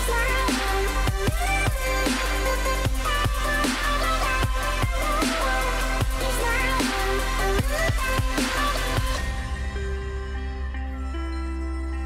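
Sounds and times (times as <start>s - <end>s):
electronic music with beat: 0.0s - 12.0s.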